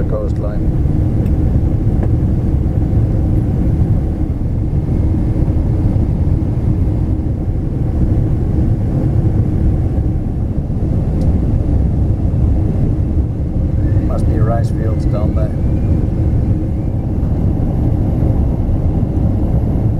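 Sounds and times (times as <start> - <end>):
jet cabin engine rumble: 0.0 - 19.9.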